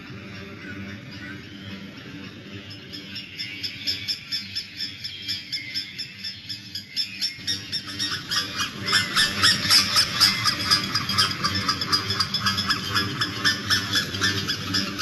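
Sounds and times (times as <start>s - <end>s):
small birds chirping rapidly: 0.0s - 15.0s.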